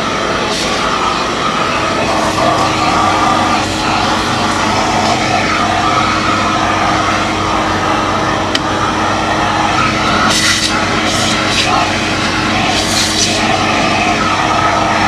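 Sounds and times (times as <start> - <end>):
hissing suction surges: 0.0 - 15.0
vacuum cleaner running: 0.0 - 15.0.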